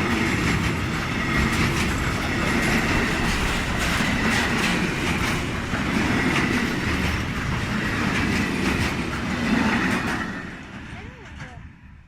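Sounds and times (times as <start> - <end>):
train wheels clacking over rail joints: 0.0 - 11.7
train rumble: 0.0 - 12.0.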